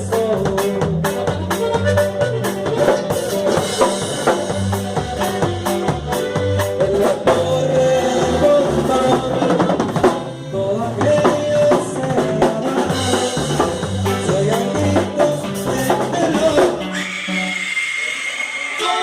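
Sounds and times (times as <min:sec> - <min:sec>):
sustained melody line: 0:00.0 - 0:16.9
walking bass line: 0:00.0 - 0:17.0
drum kit beat: 0:00.0 - 0:19.0.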